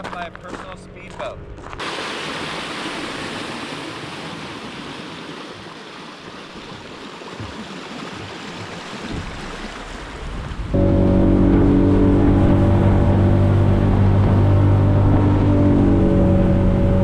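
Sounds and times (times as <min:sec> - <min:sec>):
wind: 0:00.0 - 0:17.0
rushing water: 0:01.8 - 0:17.0.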